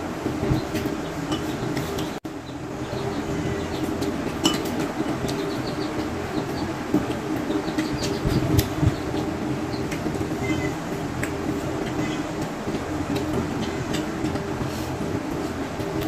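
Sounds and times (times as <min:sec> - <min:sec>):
steady droning hum: 0:00.0 - 0:16.0.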